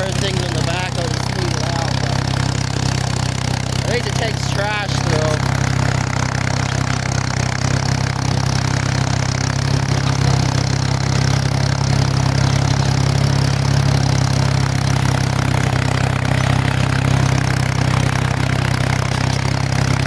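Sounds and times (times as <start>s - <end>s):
tractor engine drone: 0.0s - 20.0s.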